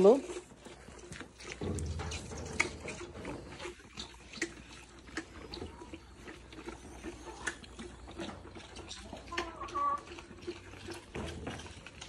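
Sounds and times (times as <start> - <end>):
calf slurping from feeding bottle: 0.0 - 12.0.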